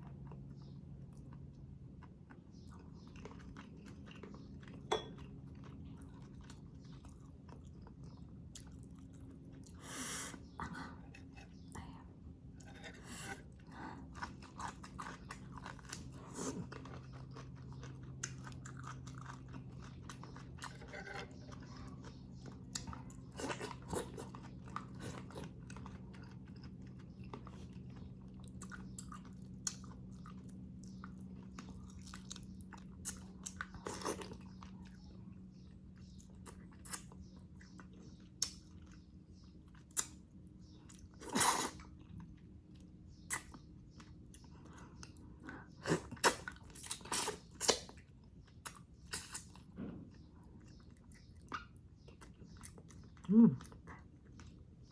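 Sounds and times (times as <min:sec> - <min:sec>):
faint low hum: 0:00.0 - 0:54.9
person chewing: 0:00.0 - 0:54.9.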